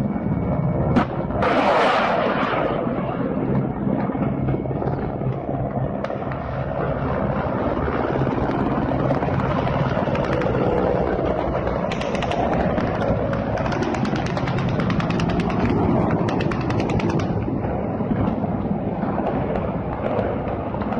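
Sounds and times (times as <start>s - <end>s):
helicopter engine drone: 0.0s - 20.9s
helicopter rotor chopping: 0.0s - 20.9s.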